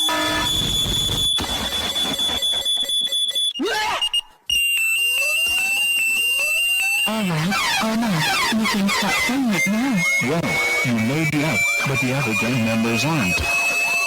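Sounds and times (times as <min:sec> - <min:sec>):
high-pitched electronic alarm tone: 0:00.0 - 0:14.0.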